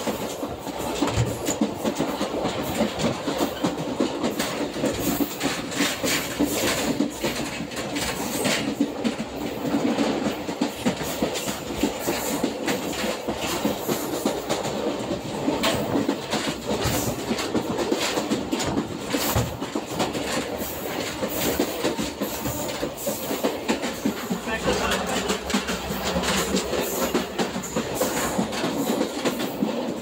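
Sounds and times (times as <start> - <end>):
train wheels clattering over rail joints: 0.0 - 30.0.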